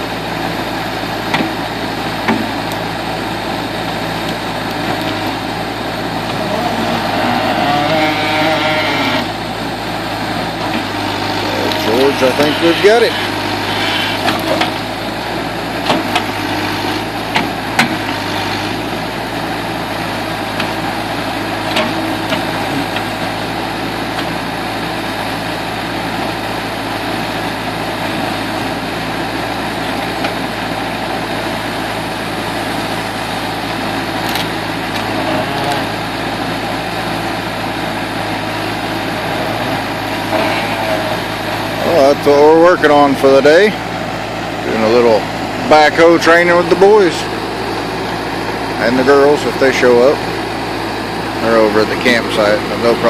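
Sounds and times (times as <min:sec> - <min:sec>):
backhoe engine running: 0:00.0 - 0:53.0.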